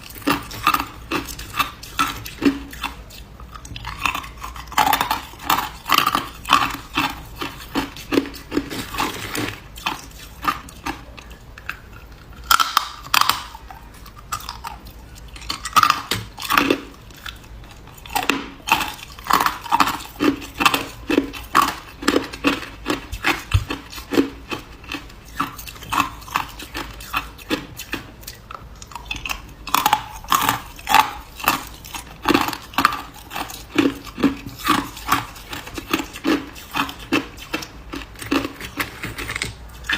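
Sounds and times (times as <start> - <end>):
person chewing ice crunching: 0.0 - 39.9.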